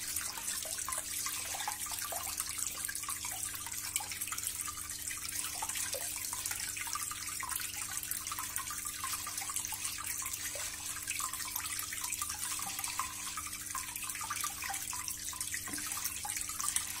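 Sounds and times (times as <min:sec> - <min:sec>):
water pouring into tank: 0:00.0 - 0:17.0.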